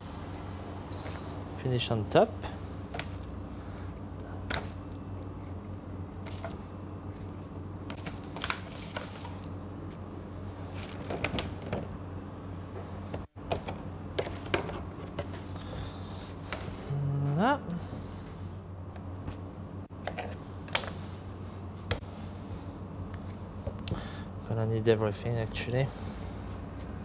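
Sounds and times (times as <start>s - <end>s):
kitchen equipment hum: 0.0s - 27.0s.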